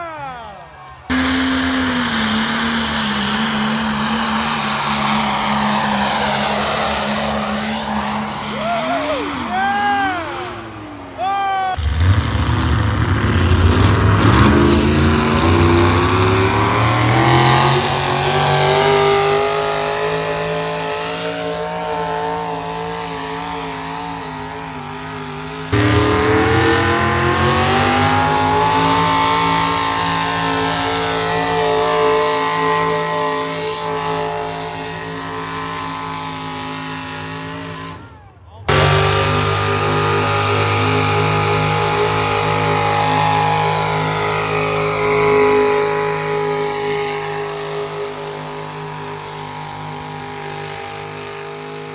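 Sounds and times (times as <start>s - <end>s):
vehicle engine running hard: 0.6s - 51.9s.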